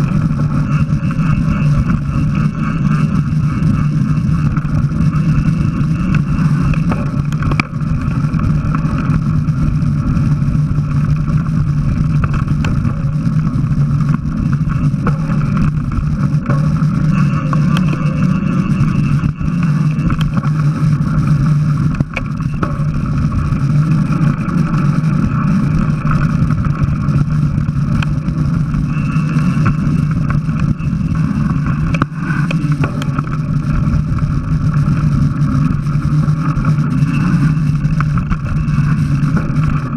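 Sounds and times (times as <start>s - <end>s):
bike tyres rumbling over dirt: 0.0s - 39.9s
wind: 0.0s - 39.9s.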